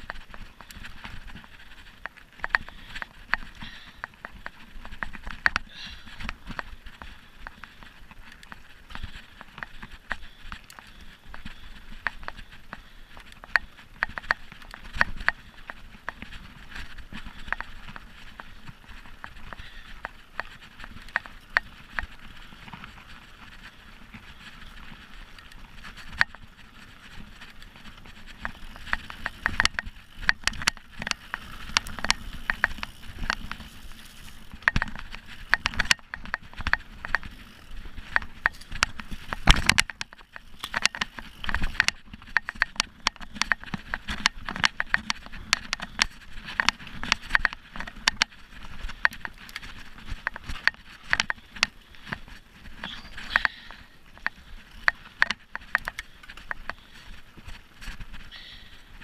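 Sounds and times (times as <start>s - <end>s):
bike rattling over bumps: 0.0s - 59.0s
bike tyres on dirt: 0.0s - 59.0s.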